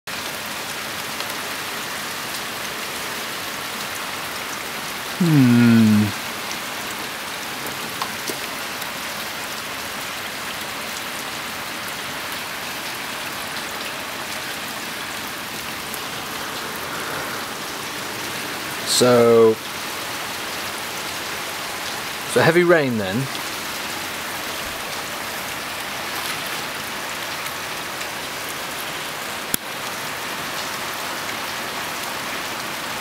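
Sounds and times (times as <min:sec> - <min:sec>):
heavy rain: 0:00.1 - 0:33.0.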